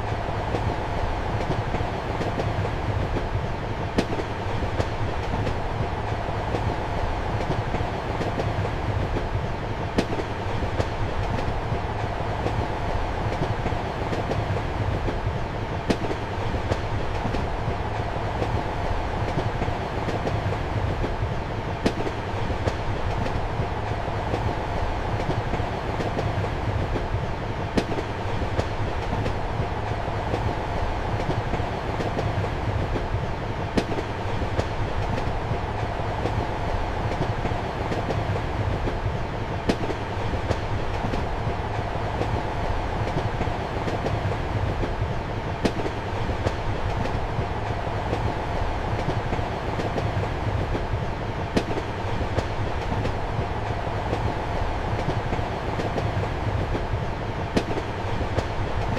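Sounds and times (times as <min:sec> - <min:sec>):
train carriage rumble and hiss: 0:00.0 - 0:58.9.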